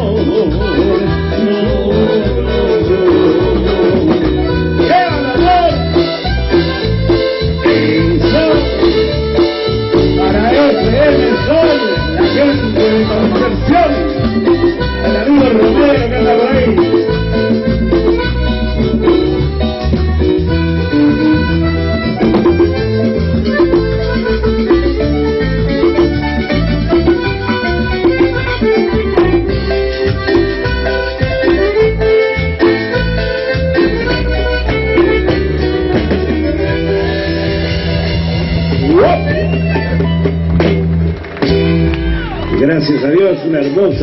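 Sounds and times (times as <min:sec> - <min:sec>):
accordion melody: 0:00.0 - 0:44.0
bass line: 0:00.0 - 0:44.0
rhythmic percussion: 0:00.0 - 0:44.0.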